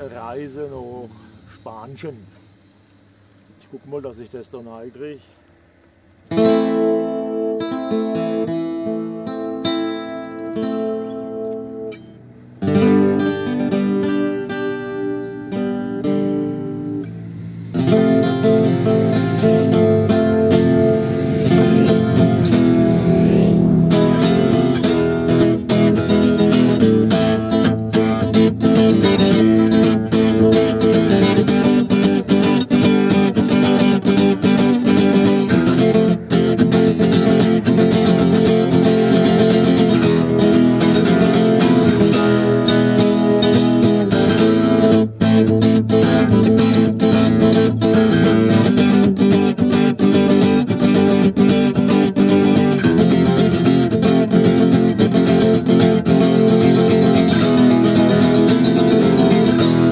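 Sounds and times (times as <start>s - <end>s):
acoustic guitar strumming: 0.0s - 3.5s, 5.9s - 59.9s.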